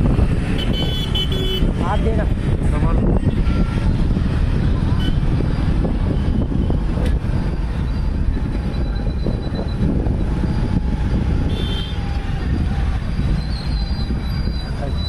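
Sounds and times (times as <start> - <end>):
vehicle road noise: 0.0 - 15.0
wind on microphone: 0.0 - 15.0.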